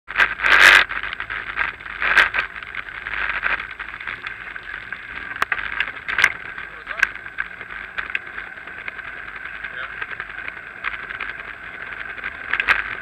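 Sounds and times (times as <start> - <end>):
bicycle rolling on brick path: 0.1 - 13.0.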